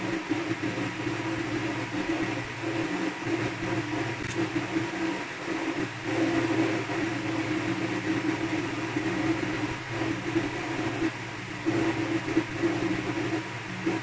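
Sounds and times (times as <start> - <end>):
steady background hum with hiss: 0.0 - 14.0.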